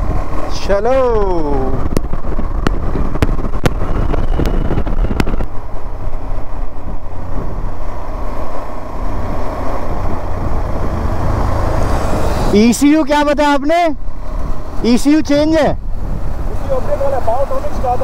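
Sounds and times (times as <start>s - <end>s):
wind buffeting microphone: 0.0s - 12.6s, 14.0s - 18.0s.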